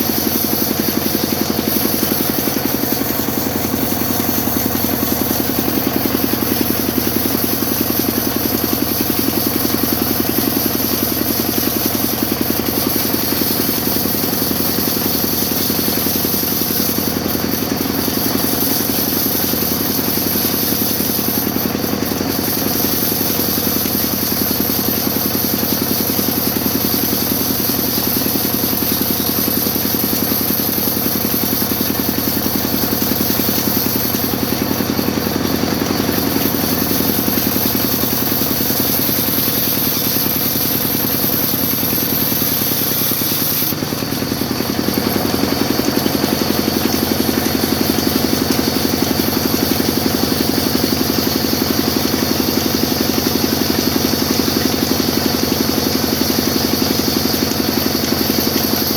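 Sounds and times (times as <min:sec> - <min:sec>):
steady high whine: 0:00.0 - 0:25.4, 0:26.7 - 0:52.0
sawmill machine drone: 0:00.0 - 0:58.9.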